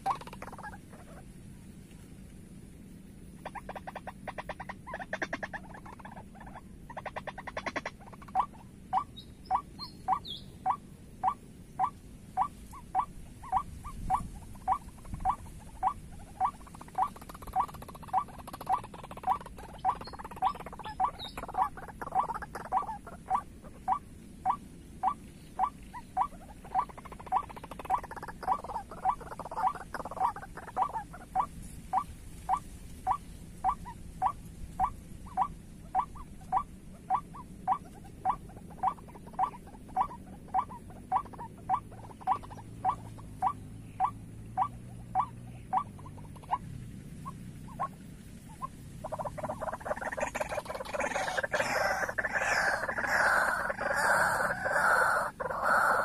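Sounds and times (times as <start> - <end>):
waterhen calling: 0.0 - 1.3, 3.4 - 56.0.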